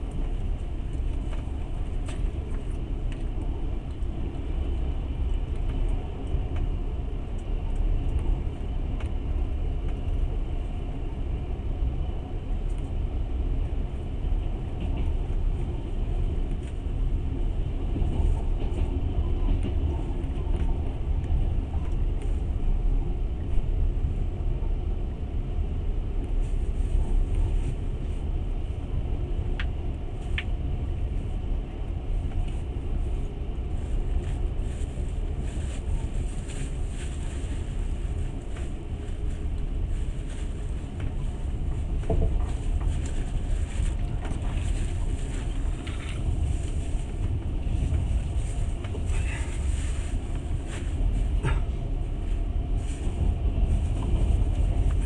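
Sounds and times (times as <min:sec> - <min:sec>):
train rumbling along track: 0:00.0 - 0:55.0.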